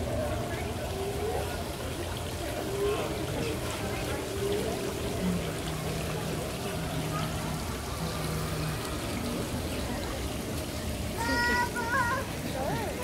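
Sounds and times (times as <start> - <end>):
faint voices: 0.0 - 13.0
running water: 0.0 - 13.0.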